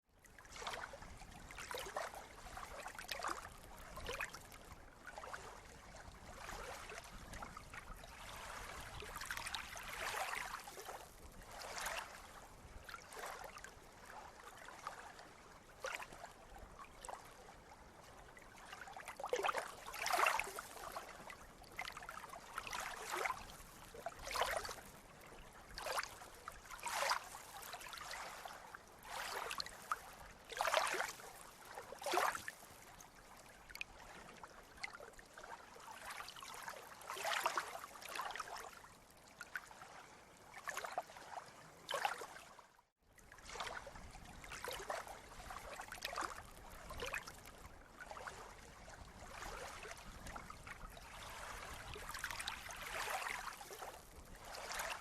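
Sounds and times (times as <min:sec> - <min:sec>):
small waves splashing: 0:00.2 - 0:55.0.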